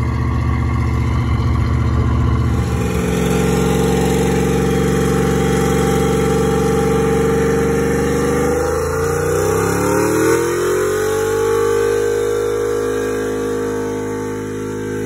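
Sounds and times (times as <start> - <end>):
engines revving during burnouts: 0.0 - 15.0.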